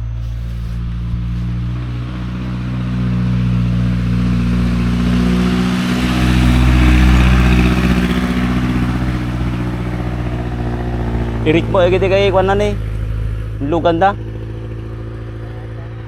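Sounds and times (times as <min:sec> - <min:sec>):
car engine droning: 0:00.0 - 0:16.0
road and wind noise: 0:00.0 - 0:16.0.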